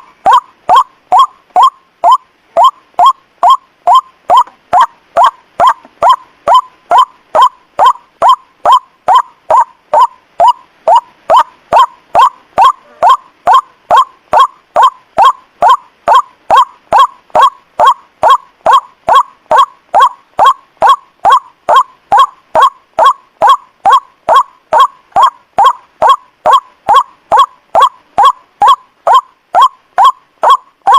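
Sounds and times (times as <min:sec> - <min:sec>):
waterhen calls: 0:00.0 - 0:30.9.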